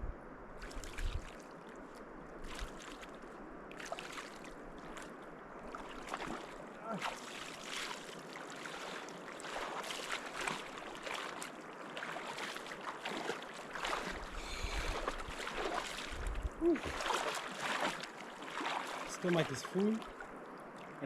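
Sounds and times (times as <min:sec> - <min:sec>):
water splashing and sloshing: 0:00.5 - 0:21.0.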